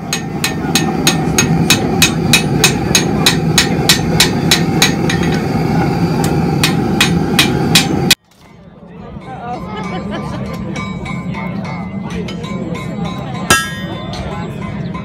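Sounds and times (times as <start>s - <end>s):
hammer blows on hot steel: 0.0s - 8.2s, 10.5s - 15.0s.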